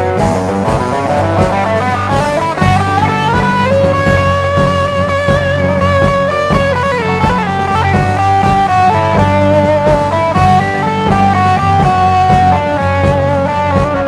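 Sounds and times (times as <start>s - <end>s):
electric guitar melody: 0.0s - 14.0s
steady bass notes: 0.0s - 14.0s.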